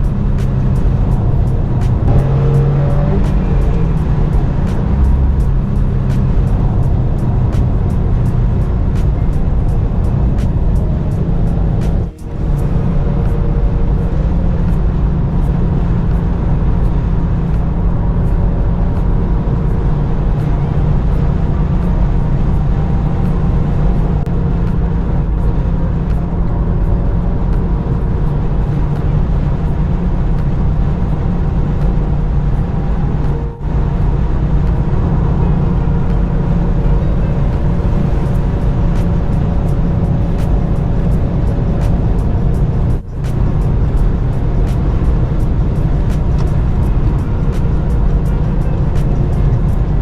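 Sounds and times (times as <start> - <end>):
car engine rumbling: 0.0 - 50.0.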